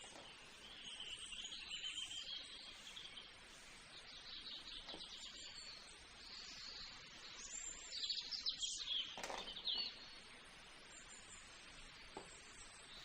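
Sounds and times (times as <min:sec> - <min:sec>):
birds chirping: 0:00.0 - 0:13.0
low background hiss: 0:00.0 - 0:13.0.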